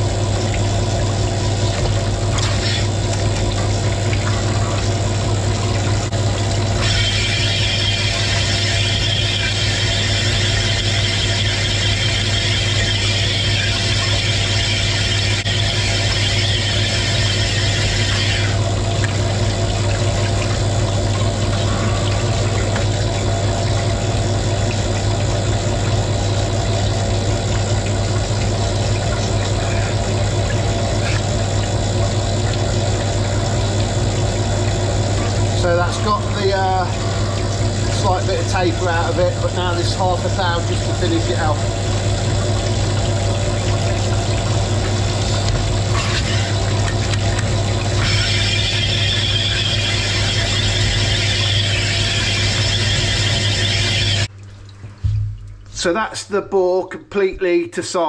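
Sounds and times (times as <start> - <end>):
machine and oil pump humming: 0.0 - 58.0.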